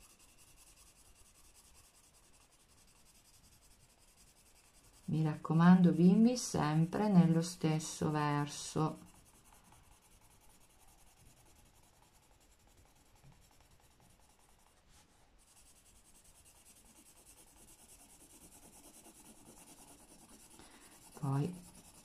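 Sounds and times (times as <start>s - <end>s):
pencil scratching on paper: 0.0s - 22.0s.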